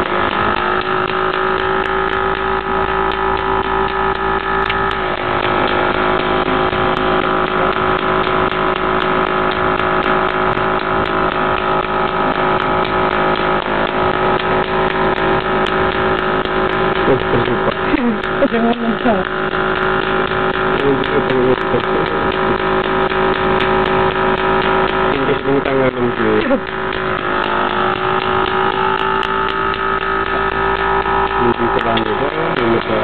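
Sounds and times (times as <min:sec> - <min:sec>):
mechanical hum: 0:00.0 - 0:33.0.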